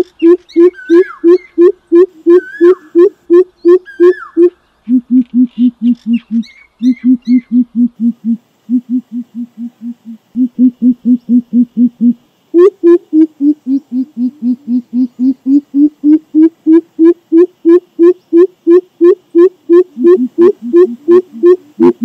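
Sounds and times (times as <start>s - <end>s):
bird hooting rapidly: 0.0s - 22.0s.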